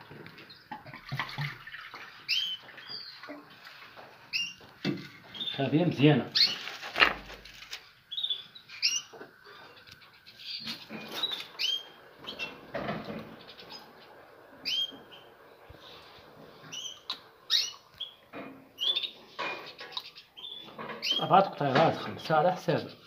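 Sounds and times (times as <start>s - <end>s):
songbirds chirping: 0.0s - 6.8s, 7.9s - 23.0s.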